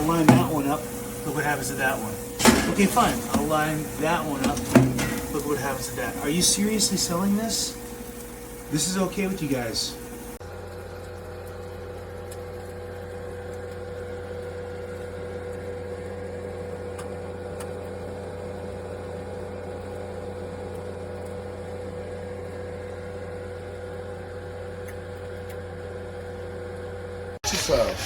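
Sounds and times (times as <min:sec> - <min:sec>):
air fryer fan hum: 0:00.0 - 0:28.0.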